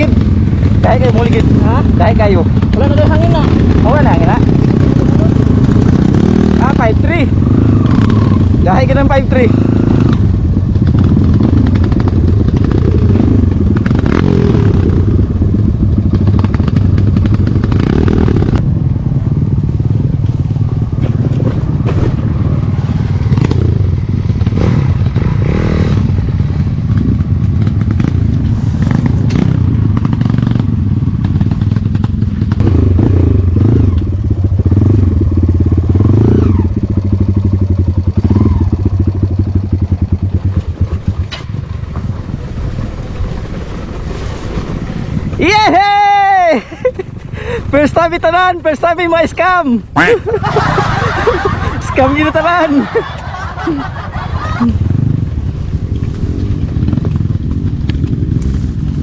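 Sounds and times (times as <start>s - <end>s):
dirt bike engine revving: 0.0s - 18.6s, 21.1s - 41.3s, 49.9s - 59.0s.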